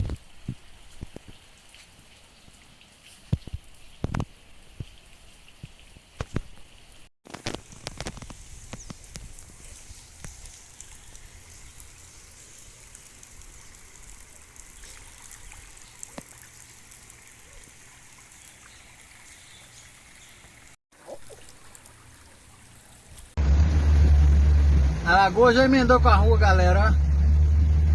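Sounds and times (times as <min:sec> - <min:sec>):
water trickling and running: 0:00.0 - 0:23.4.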